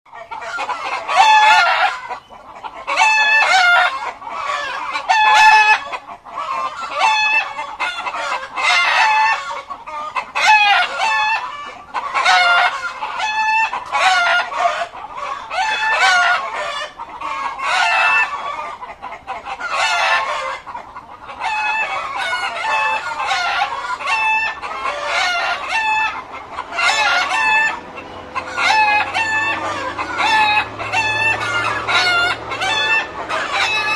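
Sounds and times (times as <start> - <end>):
chickens squawking and clucking: 0.1 - 33.9.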